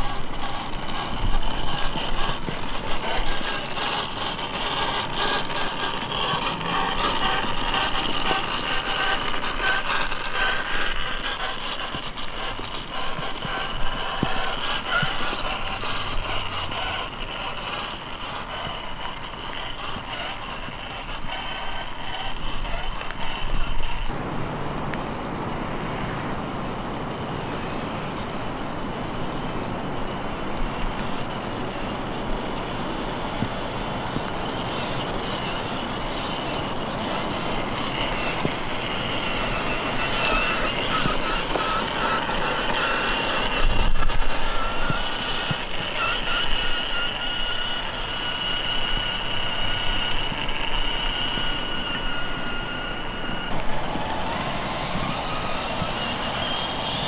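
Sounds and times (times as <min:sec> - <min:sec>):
electric motor whine: 0:00.0 - 0:57.0
rc car driving through mud and water: 0:00.0 - 0:57.0.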